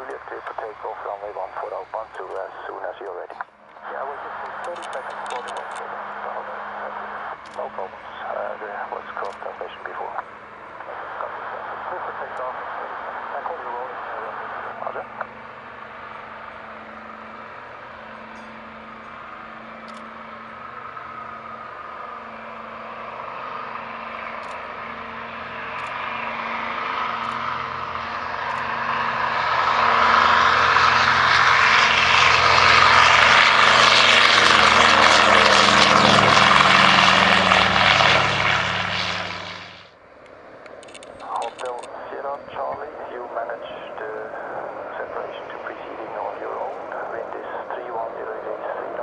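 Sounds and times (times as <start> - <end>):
propeller plane engines at takeoff: 0.0 - 49.0.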